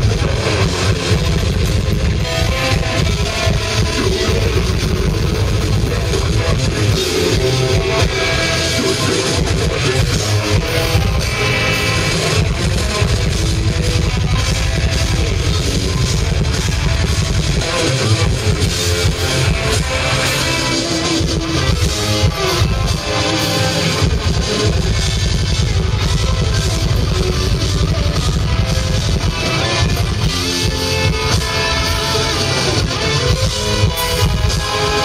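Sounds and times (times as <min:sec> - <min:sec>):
bass guitar: 0:00.0 - 0:35.0
distorted electric guitars: 0:00.0 - 0:35.0
drum kit: 0:00.0 - 0:35.0.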